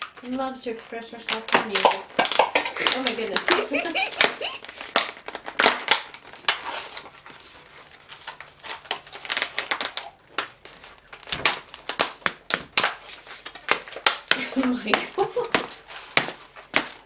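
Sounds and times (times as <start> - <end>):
toy egg shell cracking: 0.0 - 7.1, 8.7 - 16.9.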